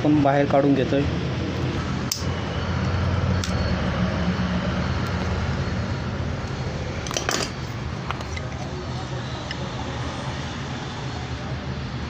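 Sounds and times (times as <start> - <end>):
engine humming: 0.9 - 12.0.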